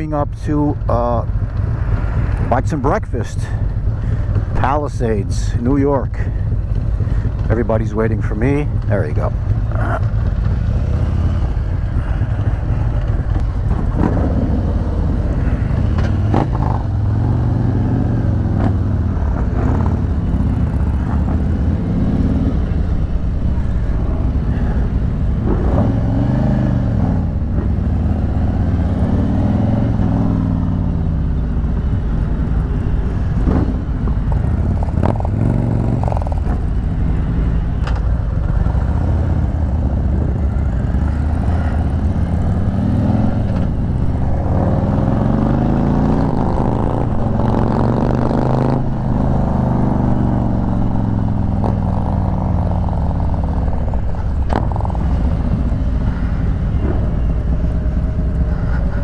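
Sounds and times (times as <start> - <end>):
motorcycle engine accelerating: 0.8 - 59.0.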